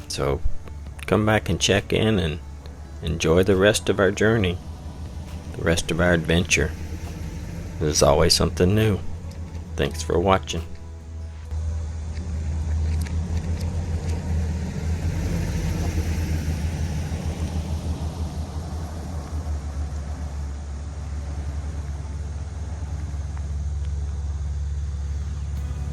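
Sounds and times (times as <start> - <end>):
vehicle engine and road noise: 0.0 - 25.9.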